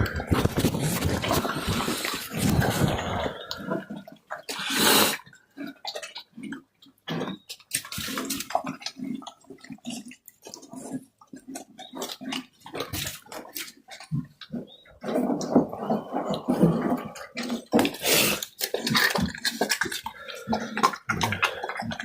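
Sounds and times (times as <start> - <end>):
pigs chewing wetly: 0.0 - 22.0.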